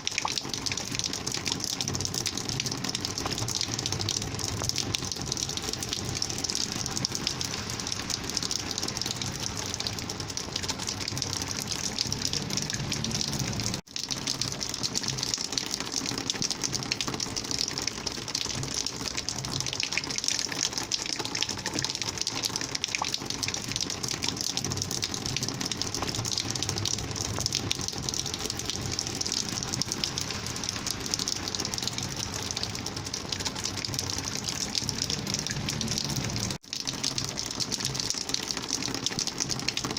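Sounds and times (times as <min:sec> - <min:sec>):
rainwater gushing: 0:00.0 - 0:39.9.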